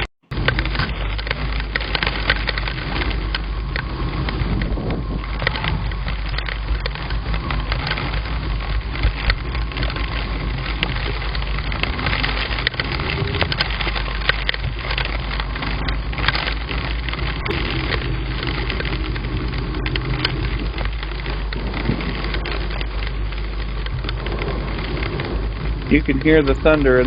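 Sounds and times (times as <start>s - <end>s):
heavy rain: 0.0s - 27.0s
raindrops hitting microphone: 0.0s - 27.0s.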